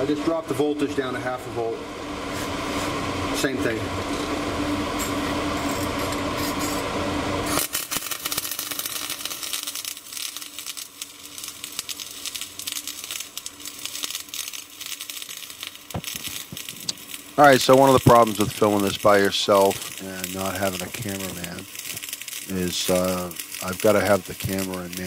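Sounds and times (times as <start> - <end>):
steady hum: 0.0 - 25.0
welding arc crackling: 4.1 - 25.0.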